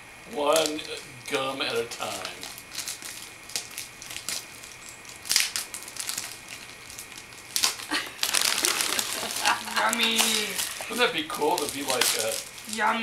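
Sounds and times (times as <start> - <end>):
plastic shrink-wrap crinkling: 0.4 - 13.0.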